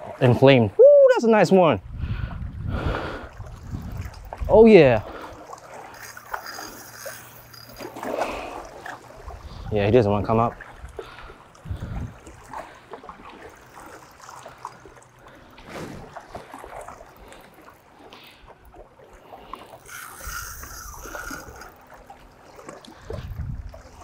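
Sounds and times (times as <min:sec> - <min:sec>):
small waves lapping on rocks: 0:03.0 - 0:24.0.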